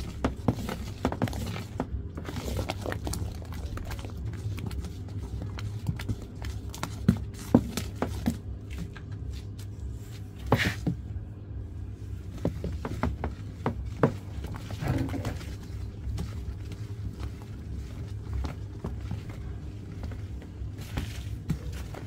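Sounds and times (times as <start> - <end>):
liquid being stirred with stick: 0.0 - 10.8, 11.9 - 22.0
steady low hum: 0.0 - 22.0.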